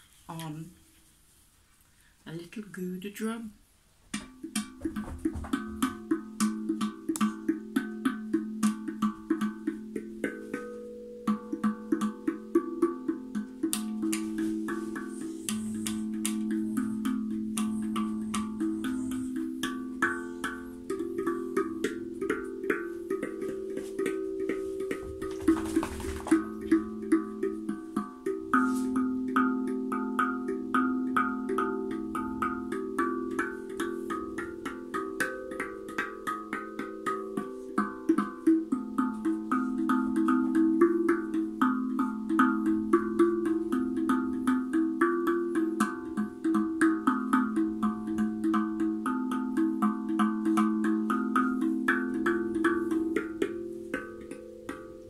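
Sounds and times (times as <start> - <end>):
steel hand drum taps: 4.1 - 55.0.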